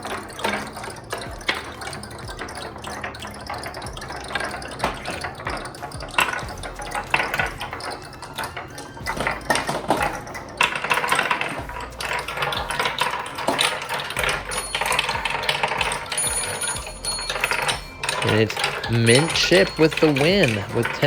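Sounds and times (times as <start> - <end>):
marbles rattling down a track: 0.0 - 21.0.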